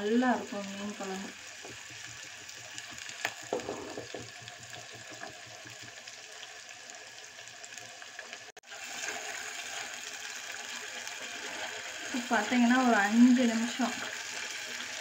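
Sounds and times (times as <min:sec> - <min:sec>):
masala paste frying in oil: 0:00.0 - 0:15.0
shallots sizzling in hot oil: 0:00.0 - 0:15.0.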